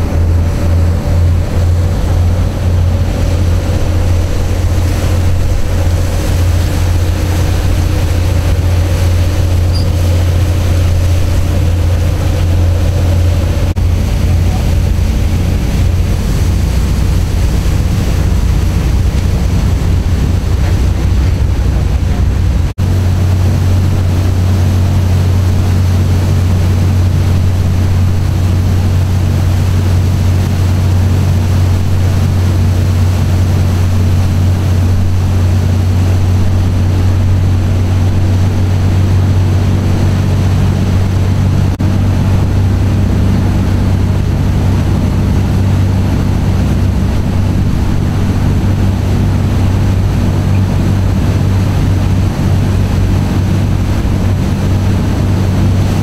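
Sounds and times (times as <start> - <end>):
boat engine droning: 0.0 - 56.0
churning wake rushing: 0.0 - 56.0
wind on microphone: 0.0 - 56.0.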